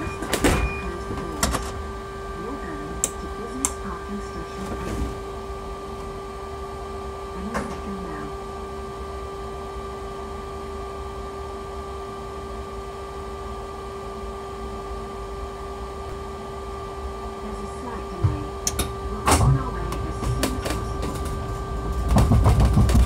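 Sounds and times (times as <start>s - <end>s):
steady electric hum: 0.0s - 23.0s.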